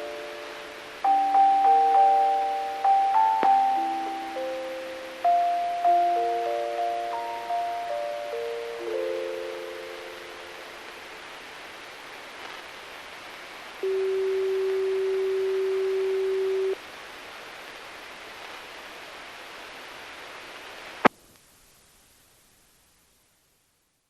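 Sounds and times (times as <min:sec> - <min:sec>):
radio hiss: 0:00.0 - 0:21.5.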